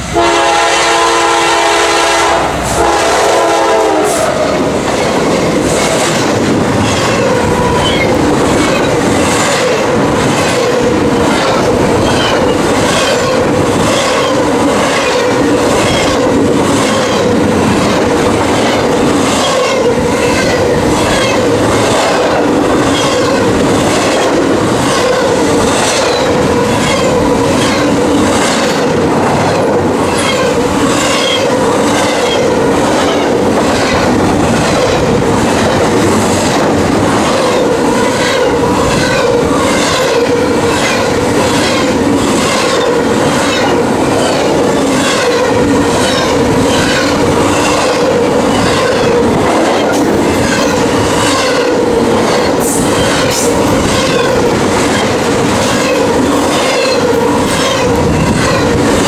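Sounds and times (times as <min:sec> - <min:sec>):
train wheels clickety-clack: 0:00.0 - 0:59.0
train wheels whining: 0:00.0 - 0:59.0.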